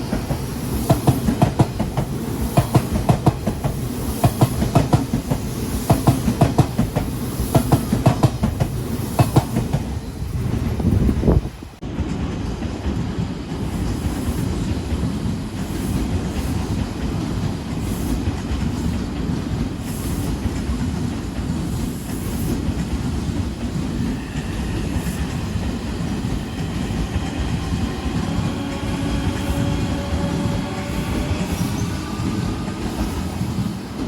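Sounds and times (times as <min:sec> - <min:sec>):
train wheels on track: 0:00.0 - 0:34.0.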